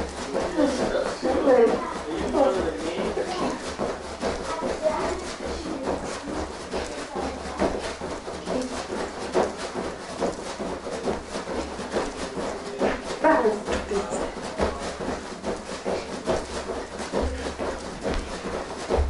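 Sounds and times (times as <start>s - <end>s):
bare feet thumping on foam mat: 0.0s - 19.0s.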